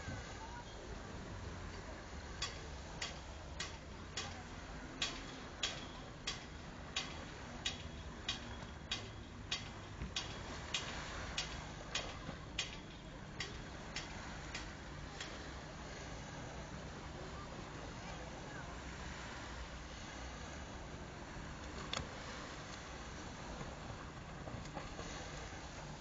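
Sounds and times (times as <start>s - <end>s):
low steady hiss: 0.0s - 26.0s.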